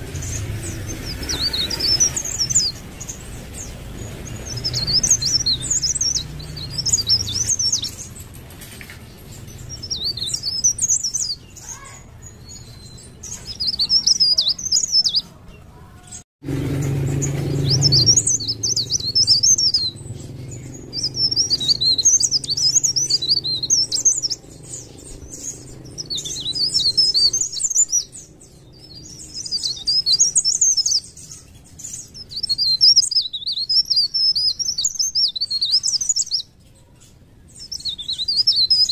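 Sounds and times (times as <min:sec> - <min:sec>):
songbird twittering: 0:00.0 - 0:38.9.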